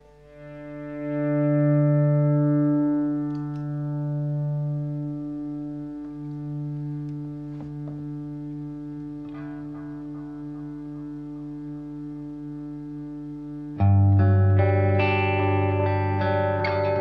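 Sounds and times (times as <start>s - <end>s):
electric guitar drone chord: 0.0s - 17.0s
soft picked guitar notes: 0.0s - 17.0s.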